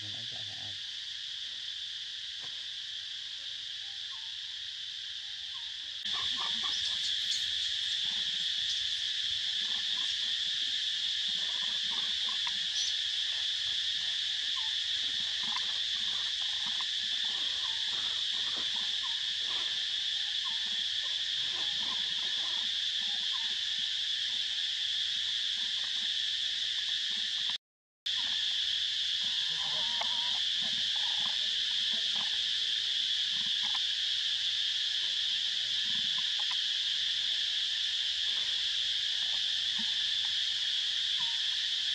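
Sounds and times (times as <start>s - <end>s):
insect chorus drone: 0.0s - 41.9s.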